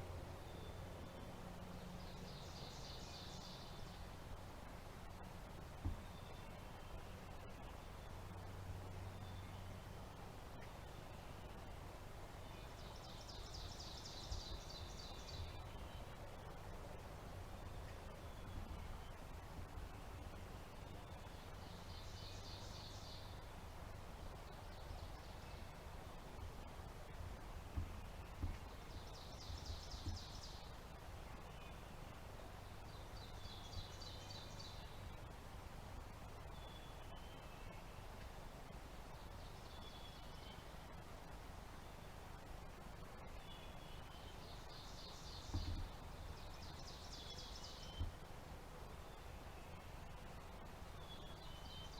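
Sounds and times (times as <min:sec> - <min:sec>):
faint outdoor background: 0:00.0 - 0:51.9.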